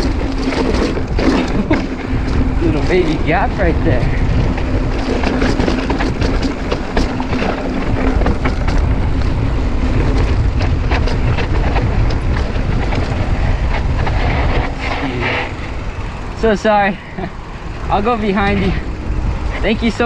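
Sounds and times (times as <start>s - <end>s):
bike rattles and clicks: 0.0s - 20.0s
bike tyres rumbling over dirt: 0.0s - 20.0s.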